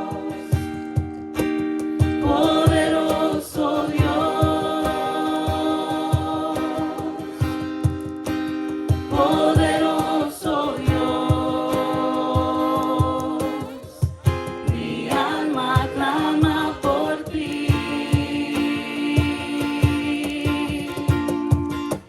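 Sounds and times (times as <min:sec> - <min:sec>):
group singing: 0:00.0 - 0:22.0.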